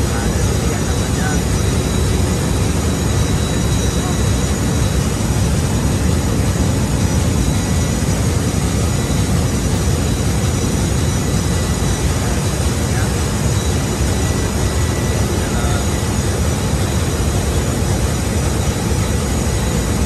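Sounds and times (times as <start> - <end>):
faint high whines: 0.0 - 20.0
ship engine room machinery roar: 0.0 - 20.0.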